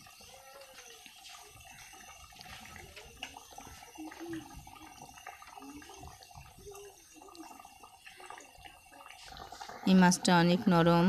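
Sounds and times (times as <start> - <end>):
curry bubbling: 0.0 - 11.0.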